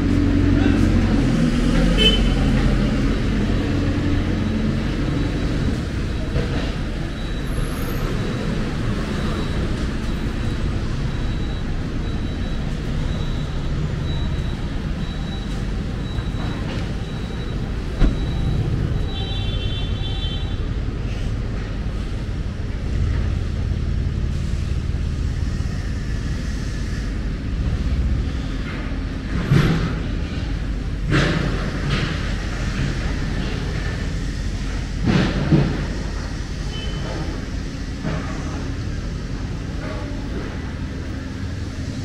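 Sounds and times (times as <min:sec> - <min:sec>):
rumble of passing cars: 0:00.0 - 0:42.0.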